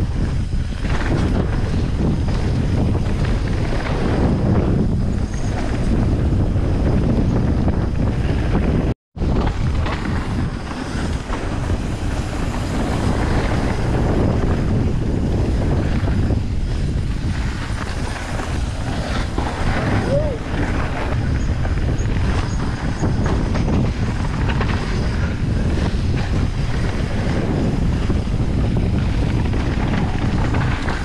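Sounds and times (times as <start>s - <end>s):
rumble of bike tyres: 0.0s - 31.0s
wind buffeting microphone: 0.0s - 31.0s.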